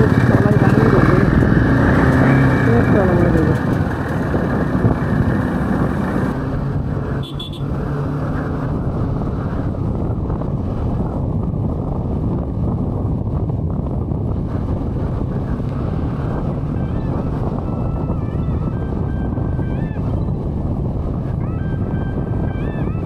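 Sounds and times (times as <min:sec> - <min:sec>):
motorcycle engine drone: 0:00.0 - 0:23.0
wind rushing on microphone: 0:00.0 - 0:23.0.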